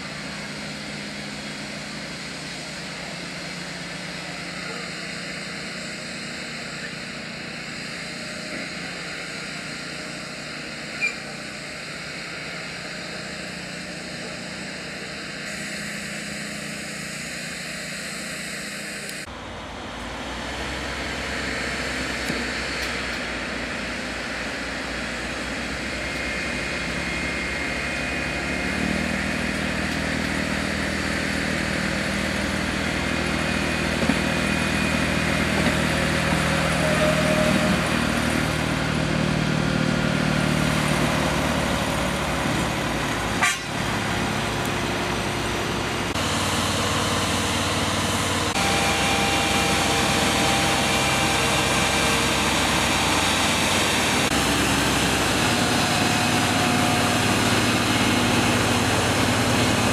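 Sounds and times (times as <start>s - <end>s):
deeper steady engine note: 0.0s - 59.9s
diesel engine running: 0.0s - 59.9s.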